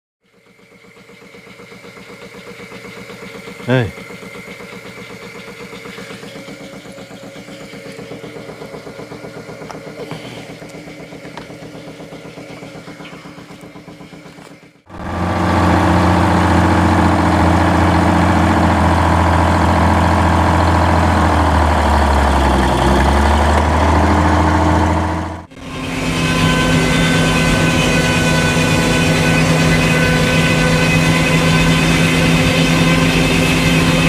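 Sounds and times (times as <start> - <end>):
heavy engine running: 0.2 - 34.0.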